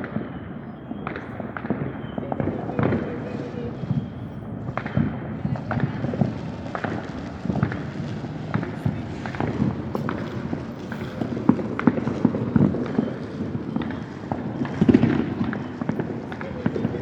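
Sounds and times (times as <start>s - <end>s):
fireworks popping and cracking: 0.0s - 17.0s
fireworks rumble: 0.0s - 17.0s.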